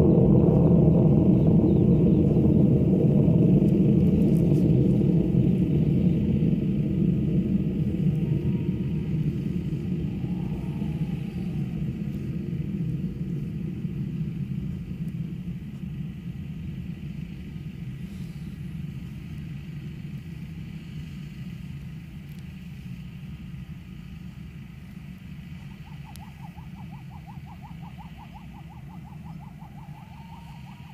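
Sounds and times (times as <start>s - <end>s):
rocket motor deep rumble: 0.0s - 30.9s.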